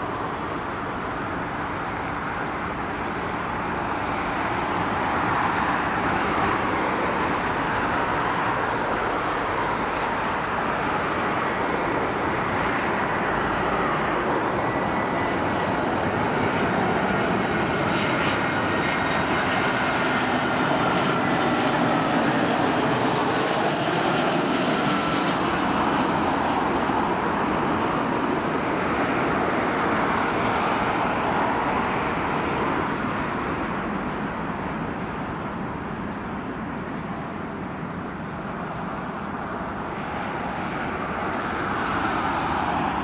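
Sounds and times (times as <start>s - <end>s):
jet airliner engine noise: 0.0s - 43.0s.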